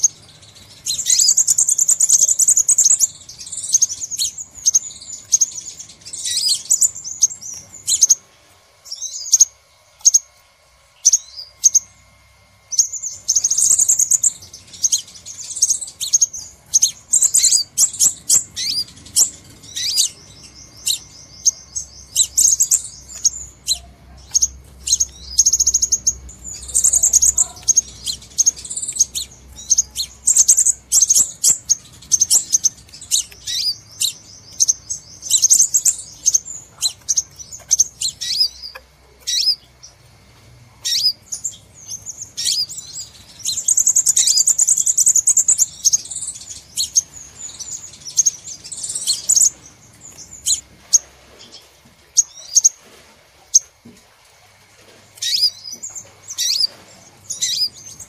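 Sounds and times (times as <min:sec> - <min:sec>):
bird chirping and trilling: 0:00.0 - 0:40.1, 0:40.7 - 0:52.8, 0:55.2 - 0:58.0.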